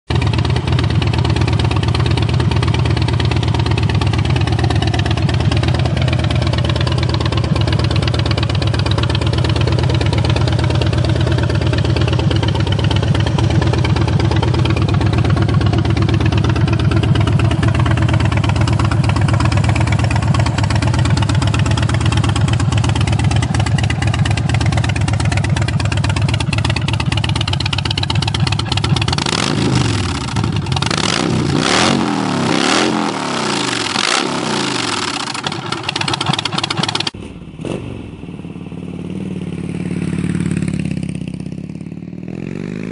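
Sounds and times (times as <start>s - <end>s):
motorcycle engine idling and revving: 0.1s - 42.9s.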